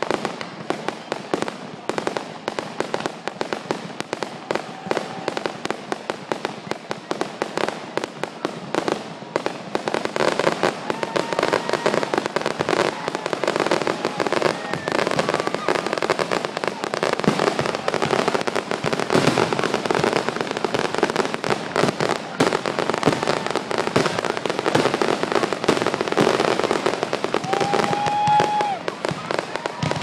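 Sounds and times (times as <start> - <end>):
fireworks crackling and popping: 0.0 - 30.0.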